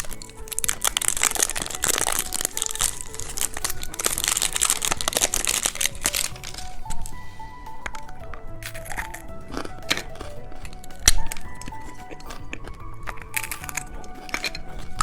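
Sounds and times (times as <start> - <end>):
candy wrapper crinkling: 0.0 - 15.0.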